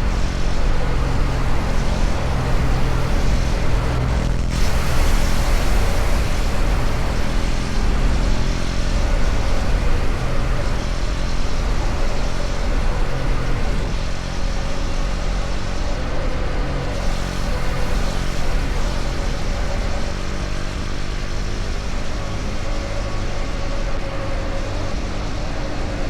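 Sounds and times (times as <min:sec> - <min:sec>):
motorcycle engine cruising: 0:00.0 - 0:26.0
road noise rush: 0:00.0 - 0:26.0.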